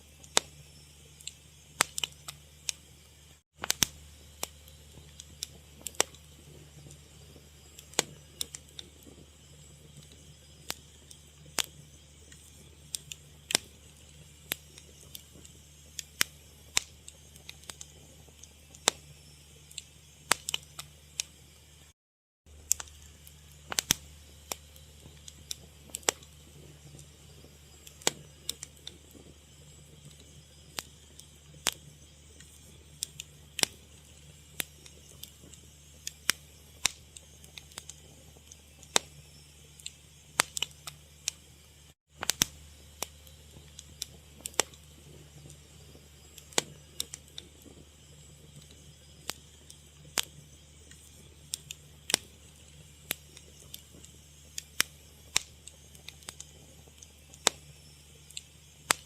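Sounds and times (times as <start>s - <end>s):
wood fire popping and snapping: 0.2s - 21.5s, 22.5s - 59.0s.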